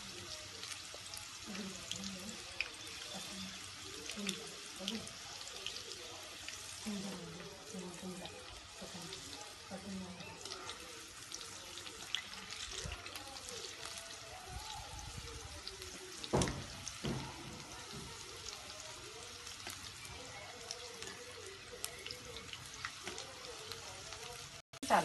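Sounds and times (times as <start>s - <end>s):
okra crackling in hot oil: 0.0s - 25.0s.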